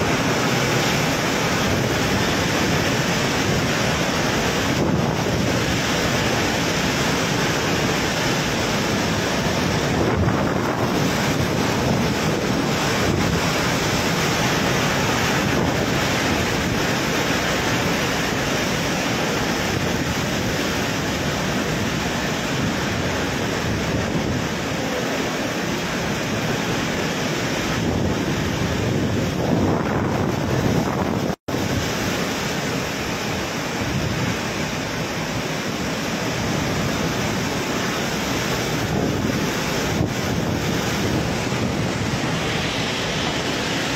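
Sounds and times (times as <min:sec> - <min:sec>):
torrential rain pouring: 0:00.0 - 0:43.9
typhoon wind howling: 0:00.0 - 0:43.9
wind gusts buffeting microphone: 0:00.0 - 0:43.9.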